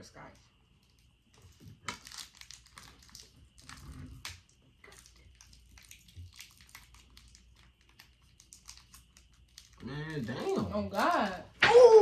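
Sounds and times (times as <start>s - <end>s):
candy wrapper crinkling: 0.8s - 11.5s.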